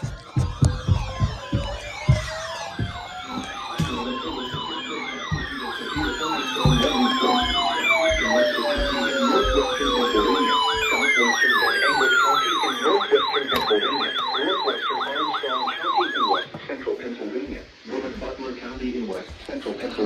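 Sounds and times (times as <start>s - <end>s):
emergency siren fast yelp: 0.0s - 16.4s
siren slow falling wails: 0.0s - 16.5s.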